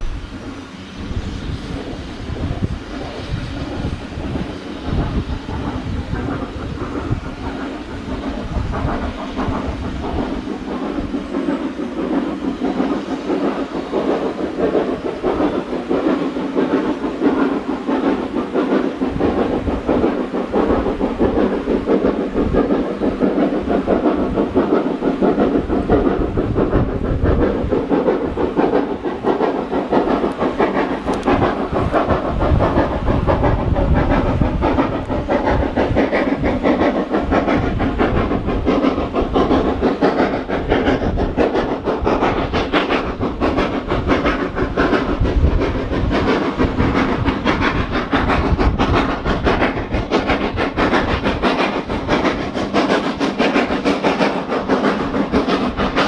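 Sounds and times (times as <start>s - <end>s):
hiss of steam: 0.0s - 56.0s
train clattering on rails: 0.0s - 56.0s.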